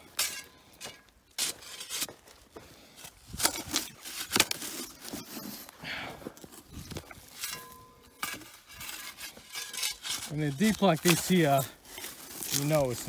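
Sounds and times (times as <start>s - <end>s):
spade digging into dry soil: 0.0s - 5.8s, 6.4s - 13.0s.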